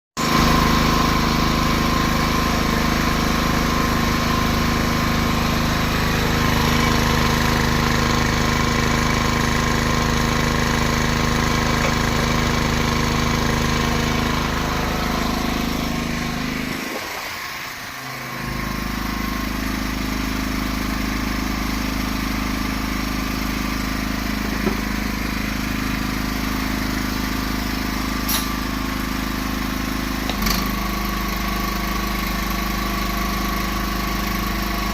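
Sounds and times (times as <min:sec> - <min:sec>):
portable generator engine running: 0:00.2 - 0:34.9.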